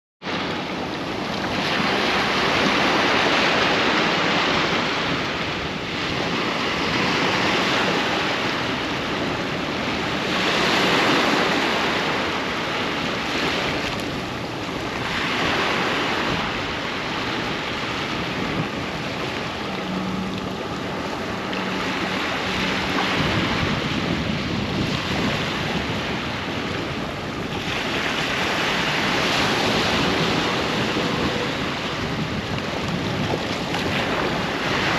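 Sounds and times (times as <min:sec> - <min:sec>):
waves breaking on shore: 0:00.2 - 0:34.9.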